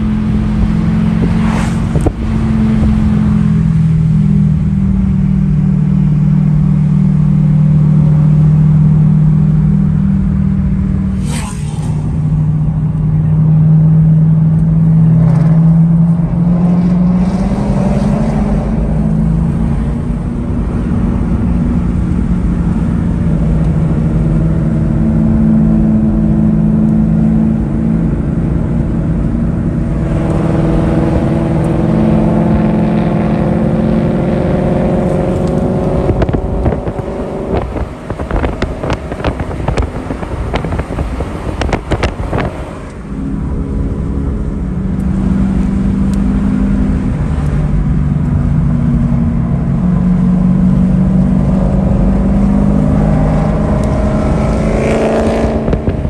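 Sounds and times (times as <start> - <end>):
sports car engines and exhausts: 0.0 - 56.0.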